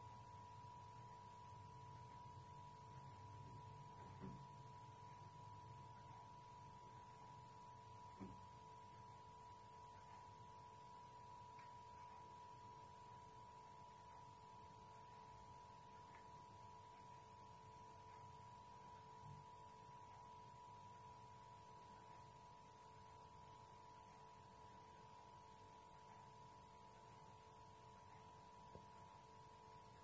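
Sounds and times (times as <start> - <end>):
electrical hum: 0.0 - 30.0
thin steady tones: 0.0 - 30.0.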